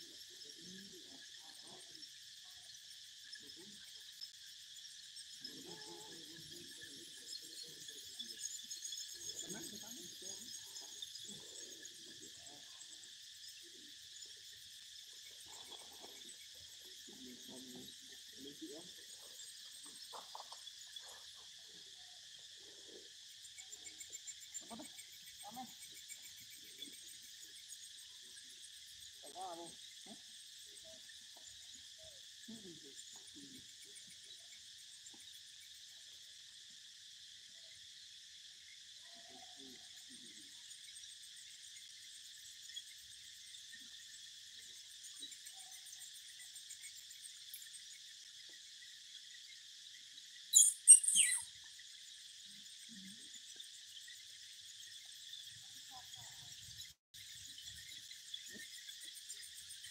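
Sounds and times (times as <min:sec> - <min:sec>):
insects shrilling: 0:00.0 - 0:59.9.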